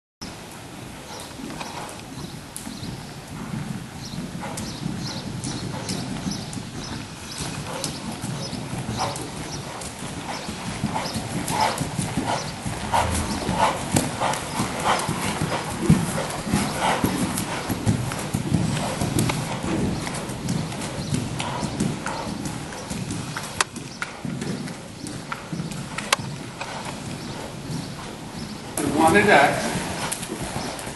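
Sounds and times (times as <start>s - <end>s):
horse hoofbeats trotting on sand: 0.2s - 30.9s.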